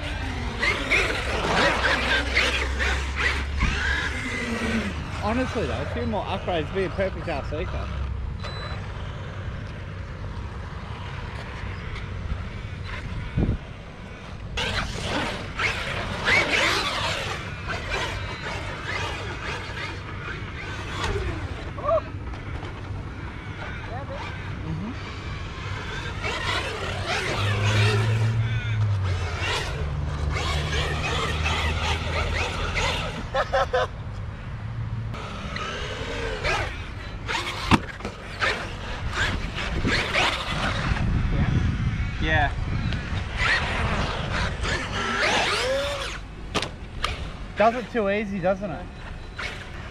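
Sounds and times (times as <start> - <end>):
electric motor whining: 0.0 - 9.2, 12.3 - 33.4, 35.1 - 48.3.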